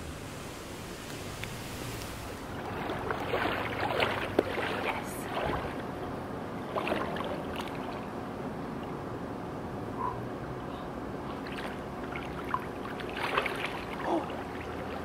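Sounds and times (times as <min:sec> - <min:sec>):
water splashing and sloshing: 0:00.6 - 0:09.4, 0:11.2 - 0:15.0.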